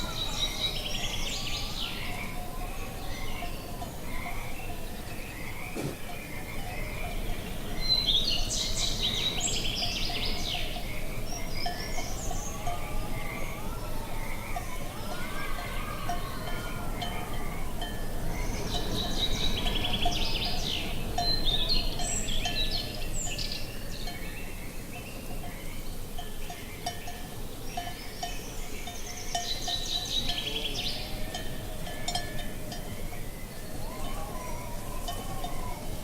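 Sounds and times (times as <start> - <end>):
cattle bells clanking: 0.0 - 36.0
songbirds chirping: 0.0 - 36.0.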